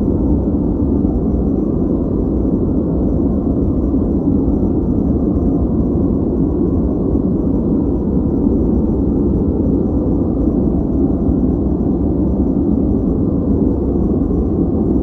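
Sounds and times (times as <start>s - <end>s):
deep rumbling noise hiss: 0.0s - 15.0s.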